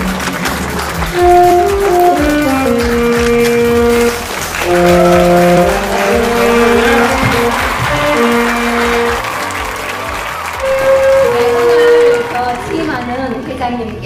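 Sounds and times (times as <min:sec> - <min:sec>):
slow brass-like wind melody: 0:01.2 - 0:12.5.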